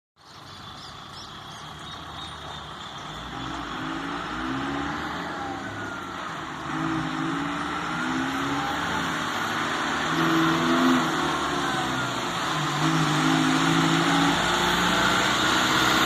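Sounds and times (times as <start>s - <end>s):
diesel truck engine revving: 0.3s - 16.0s.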